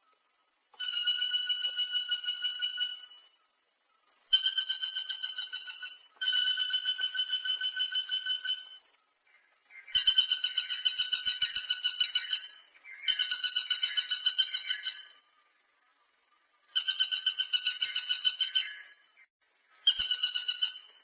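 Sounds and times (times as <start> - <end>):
woodpecker rattling calls: 0.8 - 3.4, 4.3 - 15.3, 16.7 - 19.2, 19.8 - 21.0.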